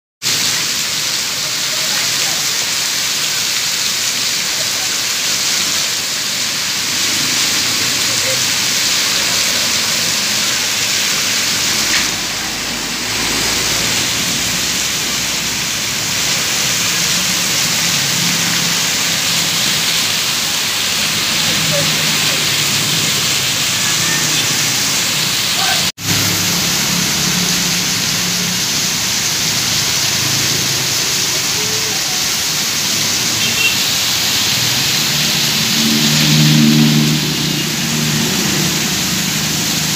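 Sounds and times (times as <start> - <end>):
heavy rain on road: 0.2 - 39.9
water streaming from overhang: 0.2 - 39.9.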